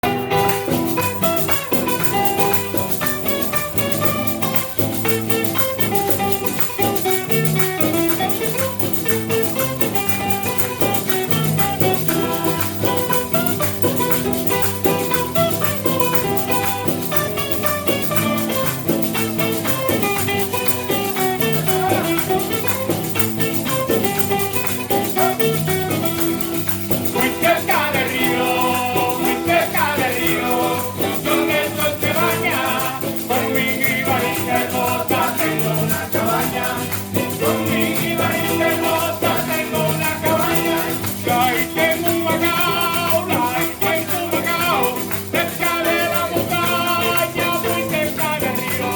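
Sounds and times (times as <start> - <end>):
plucked strings: 0.0 - 47.5
person singing: 0.0 - 48.9
rattle: 0.0 - 48.9.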